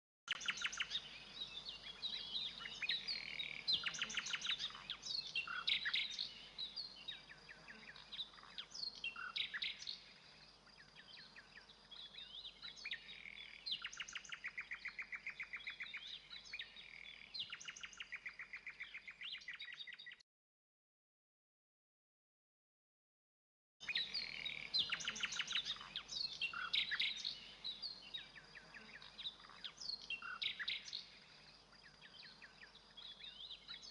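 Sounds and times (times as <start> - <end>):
songbirds singing: 0.3 - 20.2, 23.8 - 33.9.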